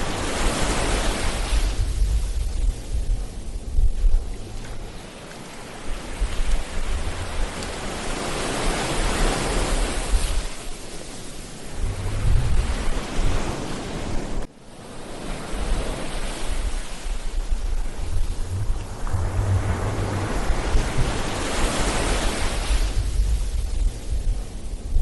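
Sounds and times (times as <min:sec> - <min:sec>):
ocean waves breaking on a beach: 0:00.0 - 0:25.0
wind rumbling on microphone: 0:00.0 - 0:25.0.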